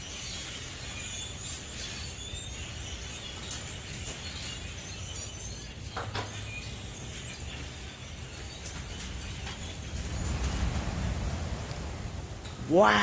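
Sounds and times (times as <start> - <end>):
flock of small birds chirping: 0.0 - 12.2.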